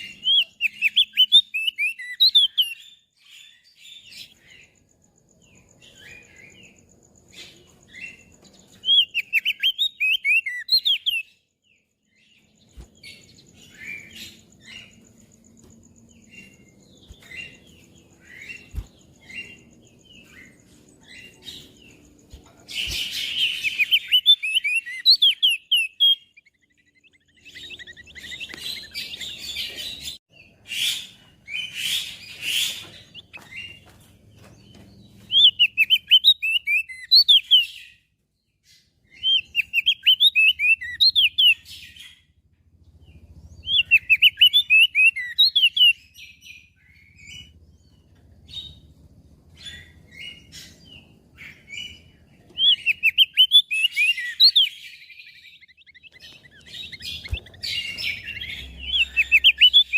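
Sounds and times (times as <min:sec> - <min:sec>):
bird chirping and twittering: 0:00.0 - 0:59.9.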